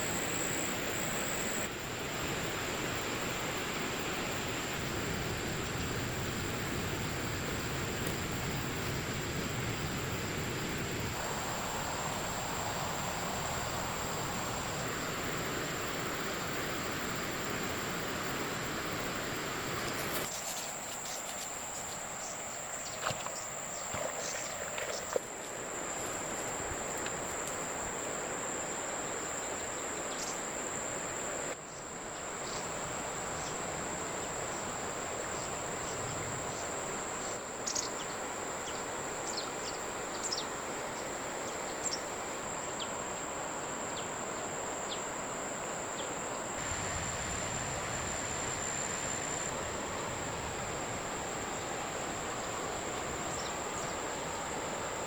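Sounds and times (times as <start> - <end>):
insects buzzing high-pitched: 0.0 - 55.0
steady hiss: 0.0 - 55.0.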